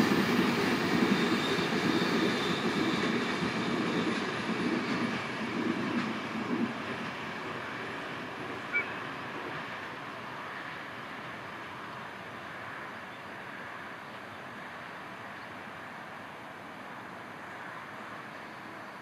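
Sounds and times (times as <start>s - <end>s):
freight train rumble: 0.0s - 19.0s.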